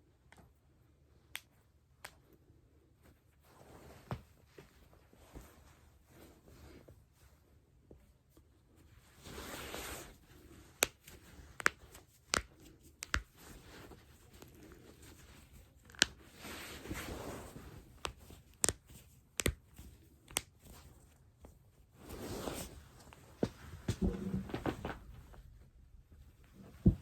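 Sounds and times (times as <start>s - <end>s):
soft rustling: 2.8s - 27.0s.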